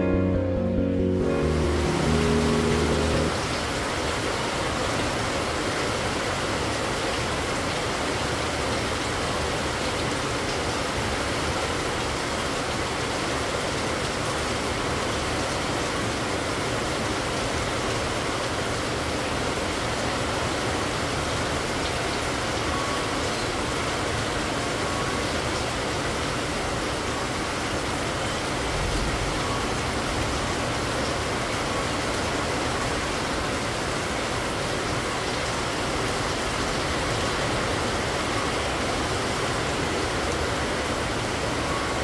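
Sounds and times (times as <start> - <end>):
heavy rain: 0.0 - 42.0.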